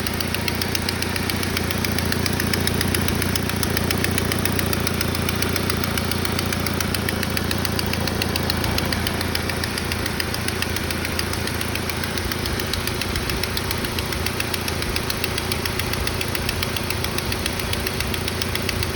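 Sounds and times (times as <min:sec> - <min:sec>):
car engine idling: 0:00.0 - 0:18.9
fast ticking engine knock: 0:00.0 - 0:18.9.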